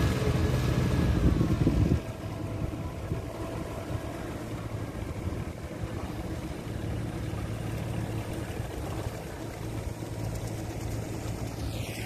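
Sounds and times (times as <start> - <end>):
machine engines droning: 0.0 - 12.0.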